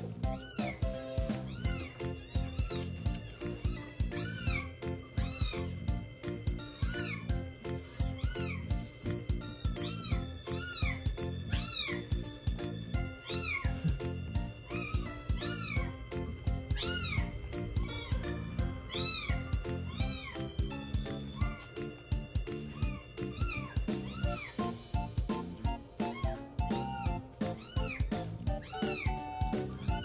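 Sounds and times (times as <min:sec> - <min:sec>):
background music: 0:00.0 - 0:30.0.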